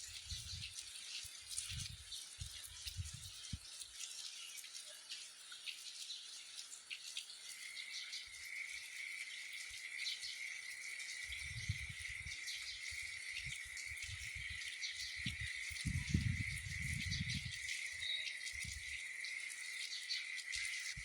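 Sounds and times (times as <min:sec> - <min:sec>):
hiss with small ticks: 0:00.0 - 0:21.0.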